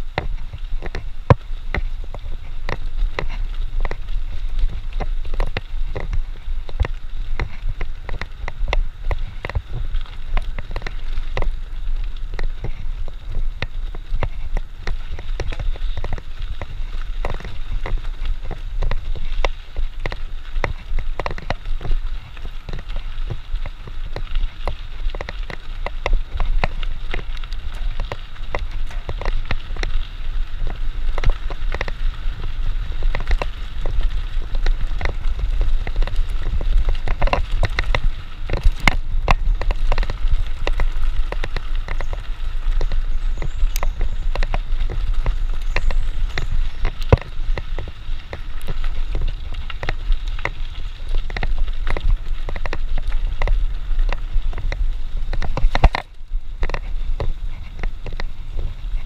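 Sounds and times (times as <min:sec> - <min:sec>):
bike tyres crackling over leaves: 0:00.0 - 0:59.0
wind rumble on microphone: 0:00.0 - 0:59.0.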